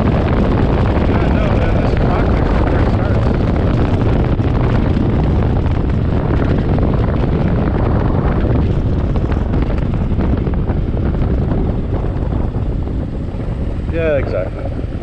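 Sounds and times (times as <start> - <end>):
motorcycle engine: 0.0 - 15.0
road noise: 0.0 - 15.0
wind on microphone: 0.0 - 15.0.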